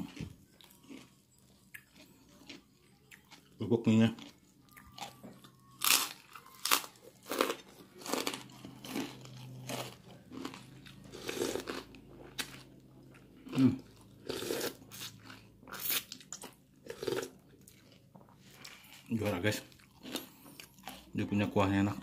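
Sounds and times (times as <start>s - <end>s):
person chewing crunchy crackers: 0.0s - 22.0s.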